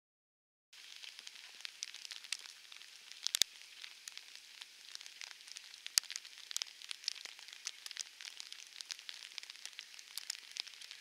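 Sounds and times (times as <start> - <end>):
sharp raindrop ticks: 0.8 - 11.0
steady rain falling: 0.8 - 11.0.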